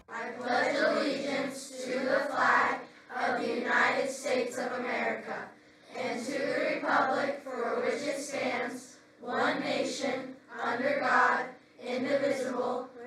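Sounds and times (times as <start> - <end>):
children reciting in unison: 0.0 - 13.0.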